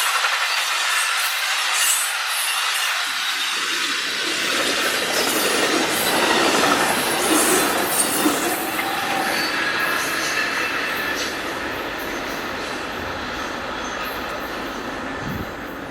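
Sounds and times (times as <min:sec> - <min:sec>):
freight train cars rolling: 0:00.0 - 0:15.9.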